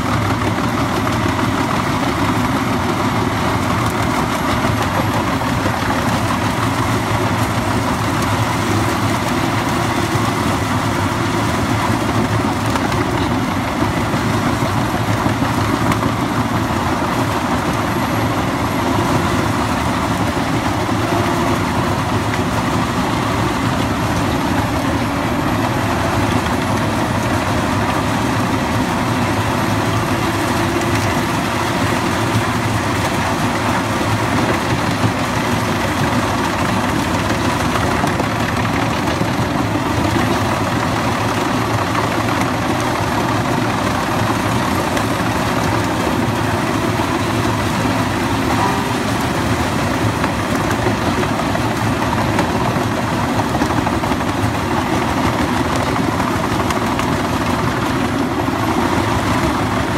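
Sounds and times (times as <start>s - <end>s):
wood chipper engine droning: 0.0s - 59.9s.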